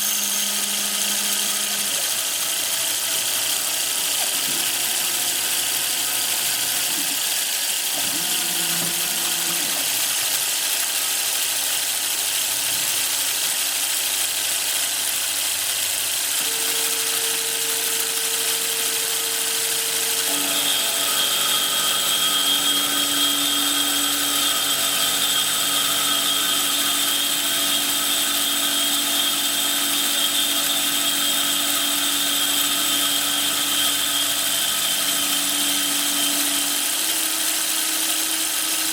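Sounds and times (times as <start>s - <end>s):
whining machine tones: 0.0s - 10.2s, 16.4s - 38.9s.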